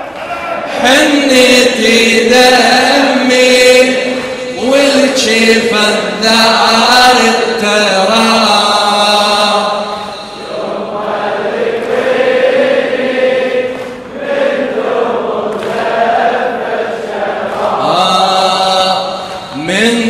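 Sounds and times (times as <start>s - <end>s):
men chanting a mourning lament: 0.3s - 20.0s.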